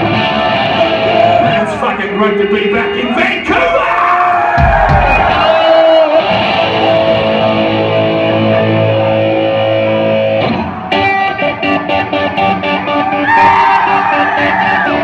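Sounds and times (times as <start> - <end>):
loud electric guitar hard rock: 0.0 - 15.0.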